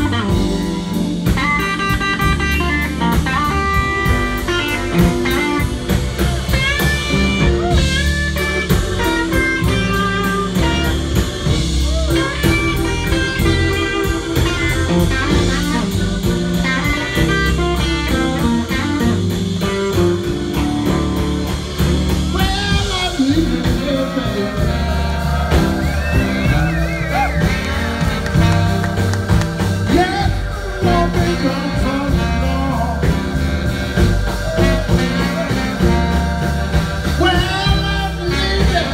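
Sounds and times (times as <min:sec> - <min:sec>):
live blues band playing: 0:00.0 - 0:38.9
steady drum beat: 0:00.0 - 0:38.9.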